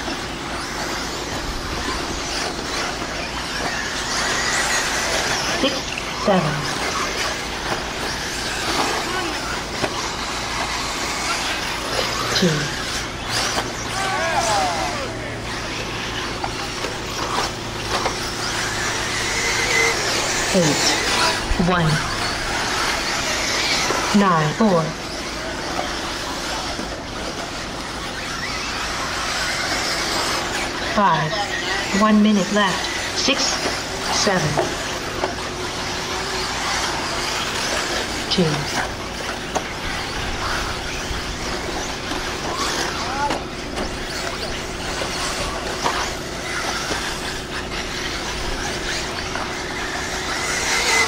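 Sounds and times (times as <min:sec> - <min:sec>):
electric motor whines: 0:00.0 - 0:51.0
steady hum: 0:00.0 - 0:51.0.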